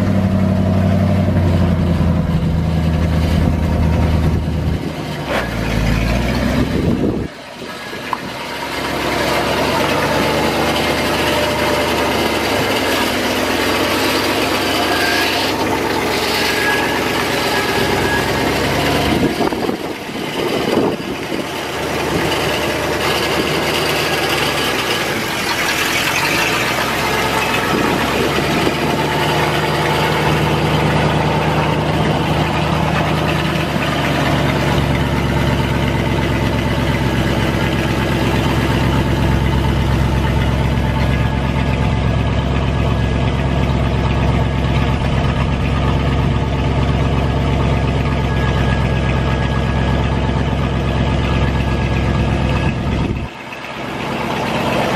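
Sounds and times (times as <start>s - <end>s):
truck engine idling: 0.0s - 54.9s.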